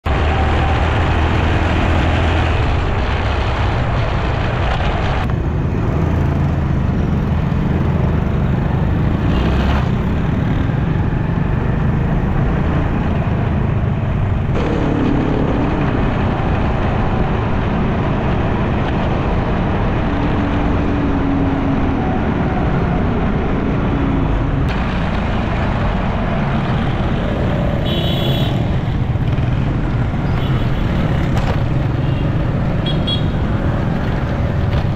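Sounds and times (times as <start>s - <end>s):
road and traffic noise: 0.0s - 34.9s.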